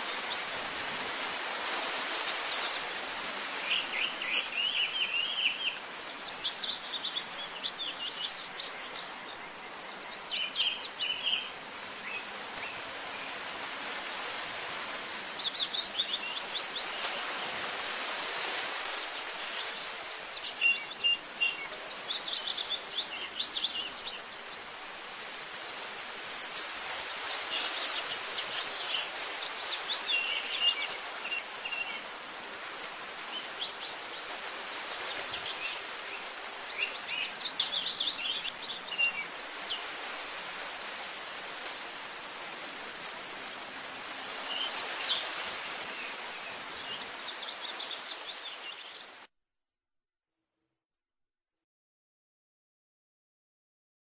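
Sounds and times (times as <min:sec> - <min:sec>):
steady outdoor hiss: 0:00.0 - 0:49.2.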